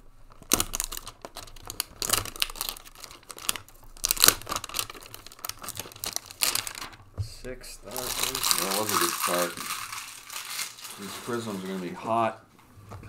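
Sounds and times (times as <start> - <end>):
packaging crinkling and tearing: 0.3 - 7.0, 7.9 - 12.0.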